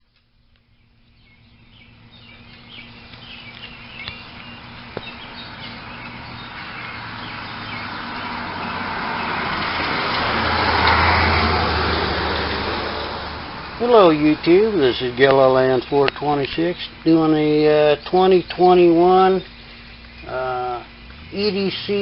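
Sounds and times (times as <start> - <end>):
vehicle noise: 0.0 - 22.0
birds chirping: 0.1 - 22.0.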